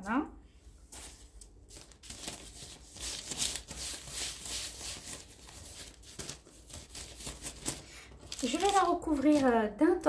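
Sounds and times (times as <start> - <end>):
baking parchment rustling: 0.8 - 9.8.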